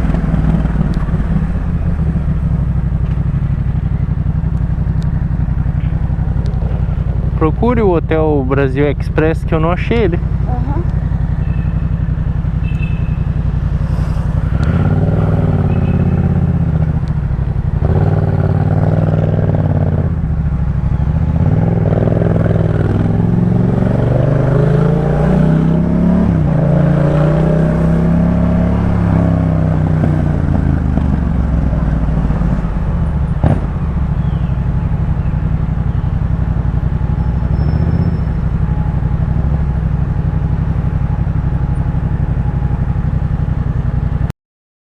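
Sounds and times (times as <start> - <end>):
motorcycle engine revving: 0.0 - 44.3.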